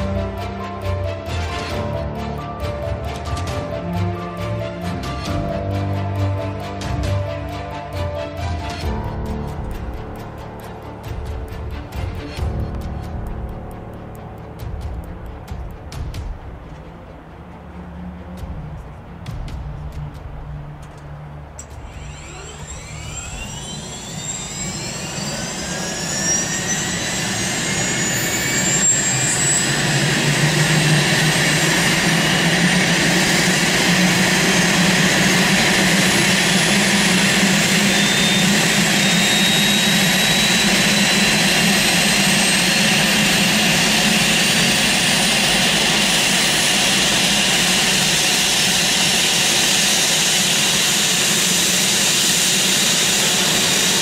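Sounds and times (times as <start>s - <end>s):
helicopter turbine whine: 0.0s - 54.0s.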